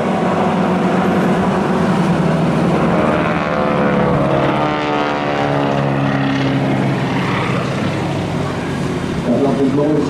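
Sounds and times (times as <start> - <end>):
biplane engines passing low: 0.0 - 10.0.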